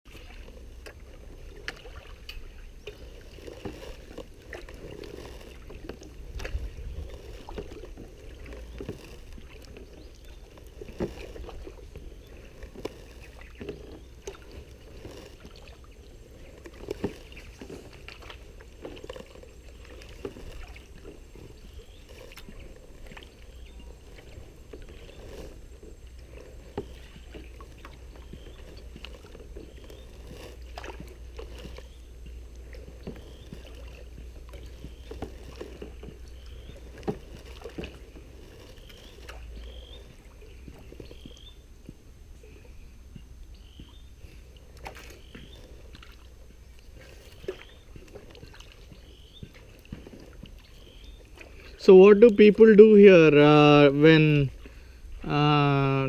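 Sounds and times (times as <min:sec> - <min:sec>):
paddle blades in water: 0:00.0 - 0:56.0.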